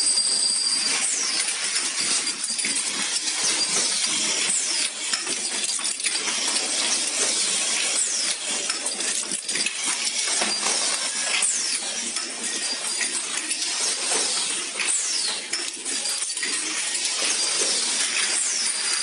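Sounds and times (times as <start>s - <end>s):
metallic clinking of assembly machine: 0.0s - 19.0s.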